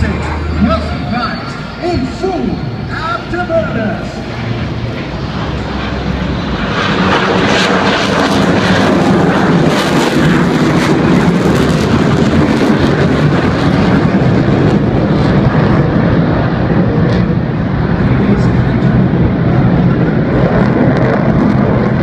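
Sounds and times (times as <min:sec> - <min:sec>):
fighter jet afterburner roar: 0:00.0 - 0:22.0.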